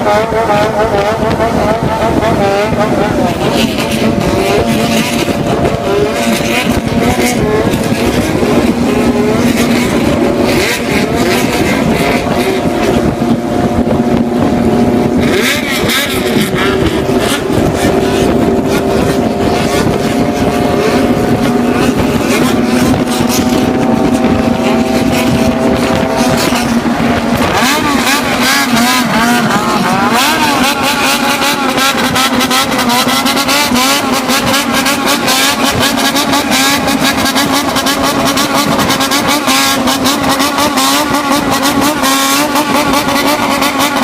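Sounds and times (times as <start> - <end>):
vehicle engine revving: 0.0 - 44.0.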